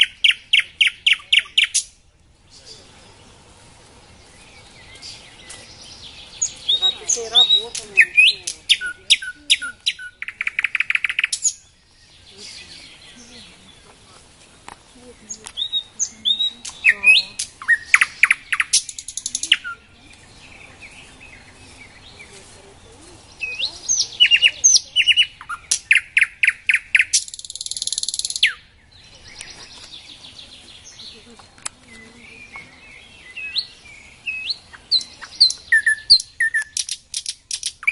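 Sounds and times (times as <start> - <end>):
nightingale singing: 0.0 - 37.9.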